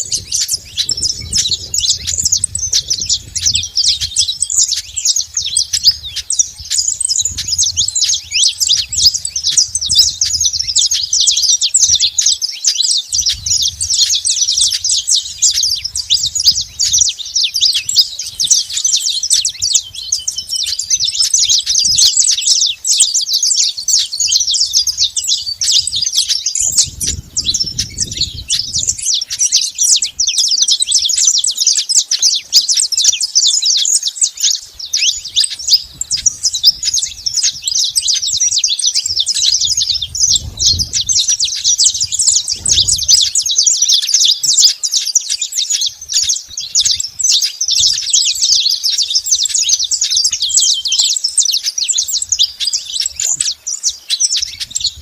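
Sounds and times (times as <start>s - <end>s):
finches singing: 0.0s - 55.0s.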